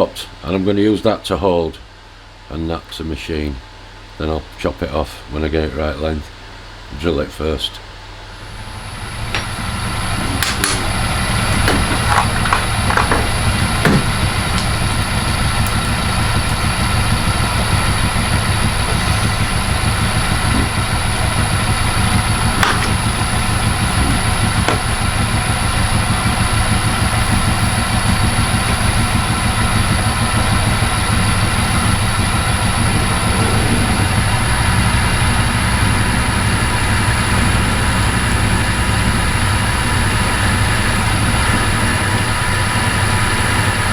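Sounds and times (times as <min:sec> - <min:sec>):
lathe humming and whining: 0:05.2 - 0:43.9.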